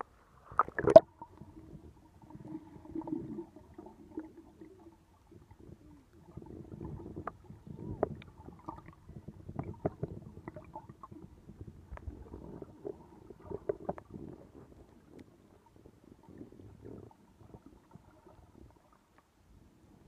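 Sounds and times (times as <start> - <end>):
underwater churning rumble: 0.5 - 18.8.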